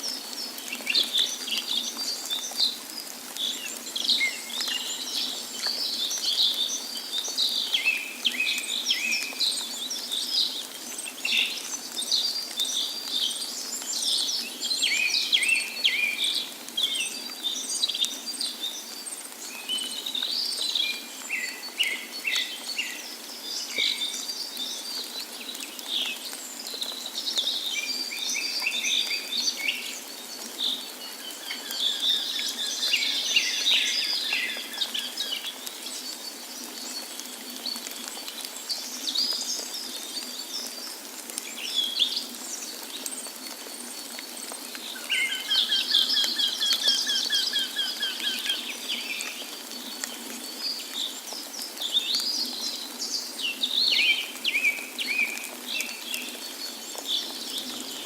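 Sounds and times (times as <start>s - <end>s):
songbirds chirping and singing: 0.1s - 58.0s.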